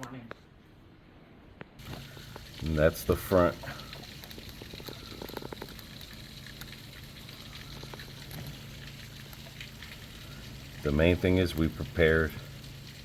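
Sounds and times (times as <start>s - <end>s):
low steady hum: 0.0s - 13.0s
rain and wind hiss: 1.8s - 13.0s
rain patter ticks: 1.8s - 13.0s.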